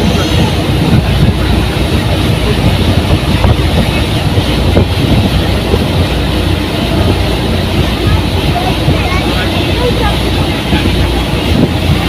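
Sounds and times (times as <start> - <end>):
rushing water: 0.0 - 12.0
speedboat engine rumbling: 0.0 - 12.0.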